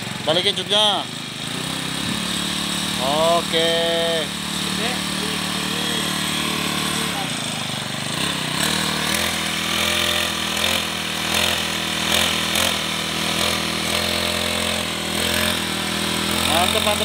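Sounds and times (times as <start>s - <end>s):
brush cutter engine revving: 0.0s - 17.0s.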